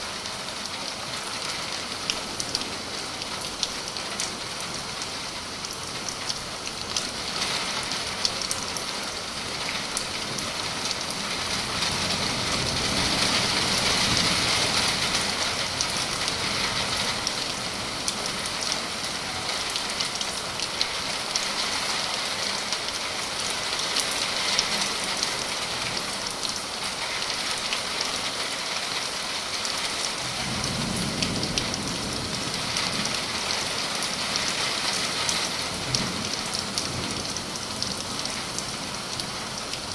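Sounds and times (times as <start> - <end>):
rain falling: 0.0 - 39.9
raindrops ticking on surfaces: 0.0 - 39.9.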